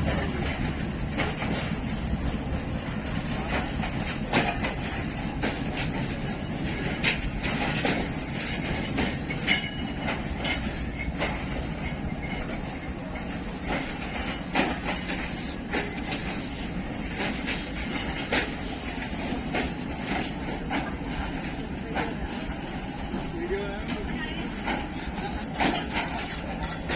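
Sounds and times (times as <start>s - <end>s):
train coaches rumbling: 0.0s - 26.9s
wheels clicking over rail joints: 0.0s - 26.9s.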